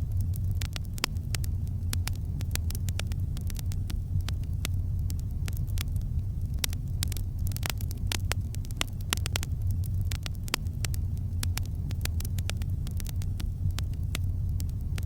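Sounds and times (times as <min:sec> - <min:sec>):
campfire crackling and popping: 0:00.0 - 0:15.0
low rumble of burning fire: 0:00.0 - 0:15.0.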